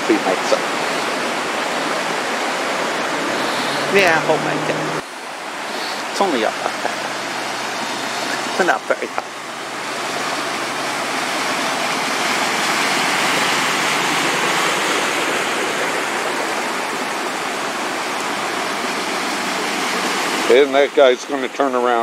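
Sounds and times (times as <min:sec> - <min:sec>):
floodwater rushing: 0:00.0 - 0:22.0
vehicles driving through water: 0:00.0 - 0:22.0.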